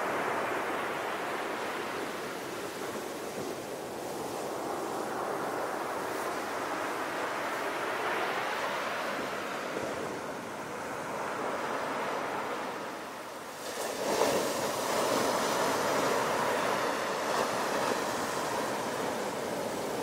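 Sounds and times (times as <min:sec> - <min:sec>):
surf on pebble beach: 0:00.0 - 0:20.0.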